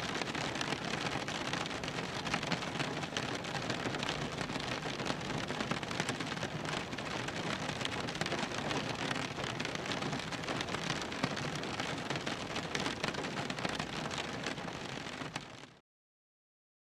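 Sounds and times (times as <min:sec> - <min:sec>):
rain drumming on car roof: 0:00.0 - 0:15.8.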